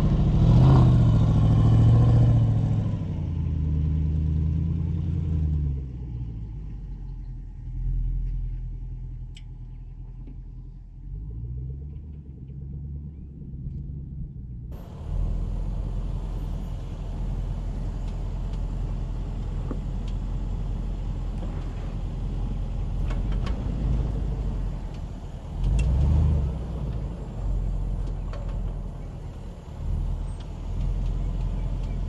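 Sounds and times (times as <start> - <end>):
suv engine rumbling: 0.0 - 32.0.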